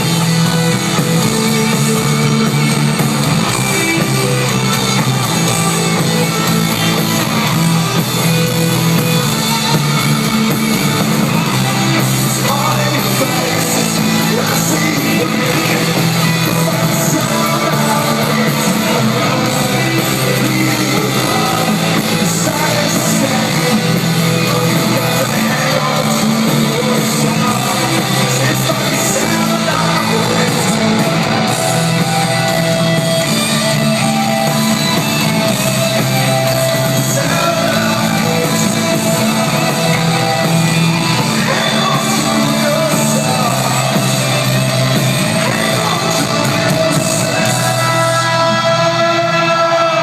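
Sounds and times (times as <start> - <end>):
person singing: 0.0 - 50.0
rock band playing live: 0.0 - 50.0.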